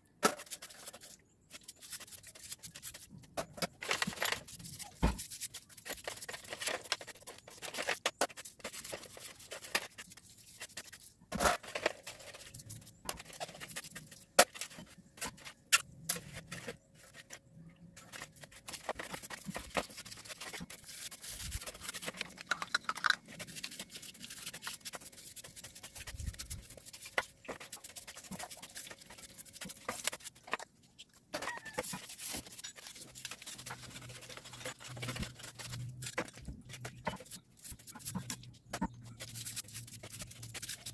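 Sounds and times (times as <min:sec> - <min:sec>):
brush scrubbing metal parts: 0:00.3 - 0:17.4, 0:18.0 - 0:30.7, 0:31.6 - 0:40.9.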